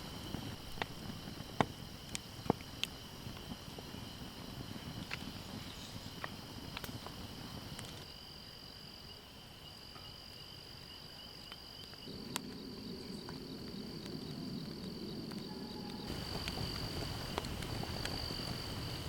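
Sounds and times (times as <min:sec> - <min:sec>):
campfire crackles and pops: 0:00.0 - 0:08.1, 0:11.3 - 0:19.0
crickets trilling: 0:00.0 - 0:19.0.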